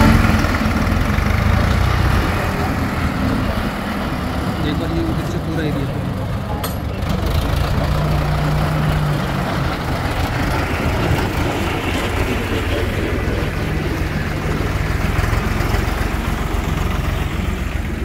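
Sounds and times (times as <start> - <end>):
tractor engine hum: 0.0 - 18.0.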